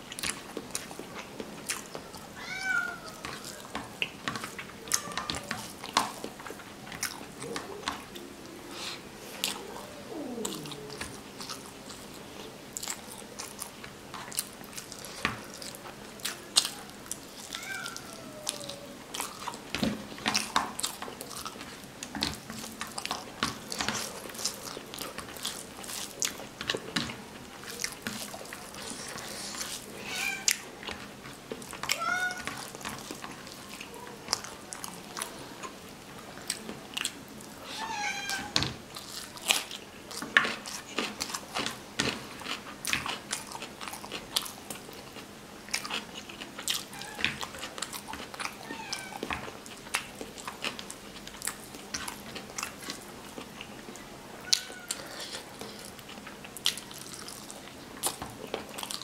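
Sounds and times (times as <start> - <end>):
wet chewing and lip-smacking: 0.1 - 2.2, 3.1 - 35.8, 38.9 - 59.0.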